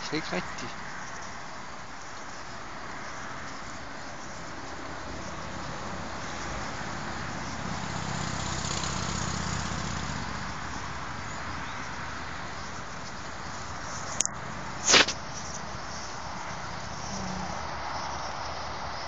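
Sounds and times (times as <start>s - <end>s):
outdoor background noise: 0.0s - 19.0s
passing vehicle engine hum: 1.8s - 19.0s.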